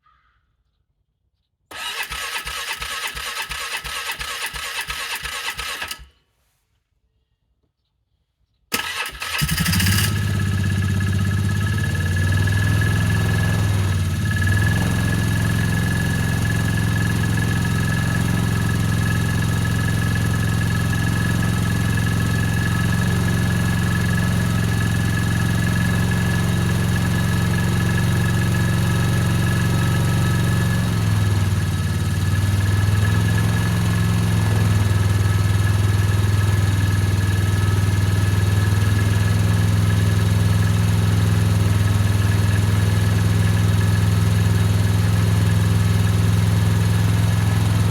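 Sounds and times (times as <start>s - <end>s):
vehicle engine starting and idling: 1.7s - 6.1s, 8.7s - 47.9s.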